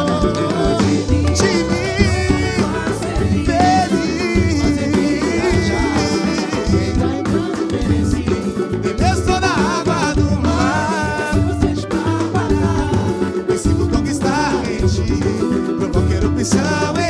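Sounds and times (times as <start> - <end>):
bass: 0.0 - 17.0
bending melody line: 0.0 - 17.0
samba percussion: 0.0 - 17.0.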